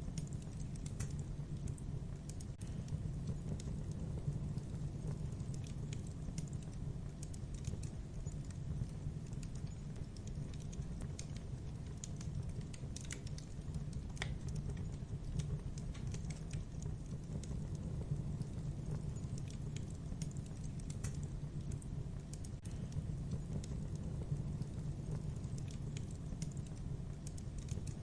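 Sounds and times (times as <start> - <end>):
fire roaring: 0.0 - 28.0
logs crackling and popping: 0.0 - 28.0.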